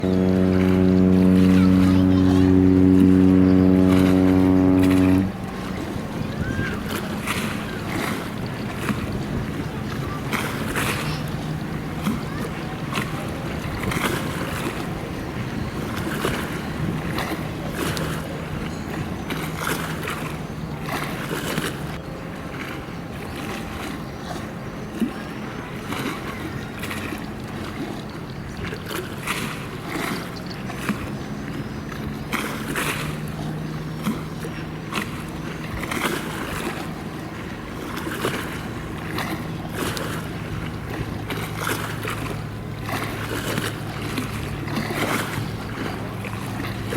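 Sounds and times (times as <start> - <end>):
ship engine drone: 0.0 - 25.8, 31.3 - 46.9.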